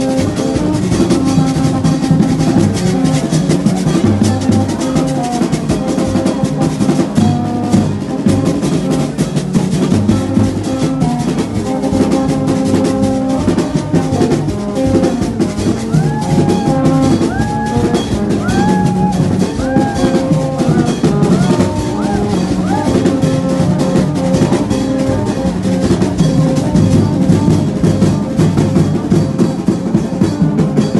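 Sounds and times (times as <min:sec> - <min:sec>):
fast drum beat music: 0:00.0 - 0:30.9.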